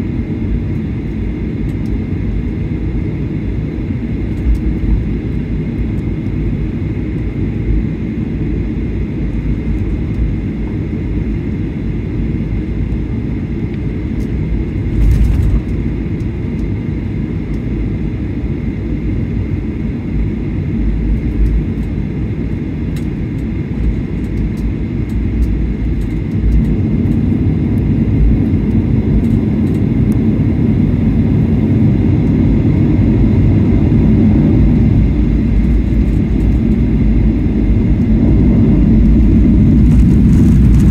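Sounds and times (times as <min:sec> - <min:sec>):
aircraft engine and rolling rumble: 0:00.0 - 0:40.9
faint steady whine: 0:00.0 - 0:40.9.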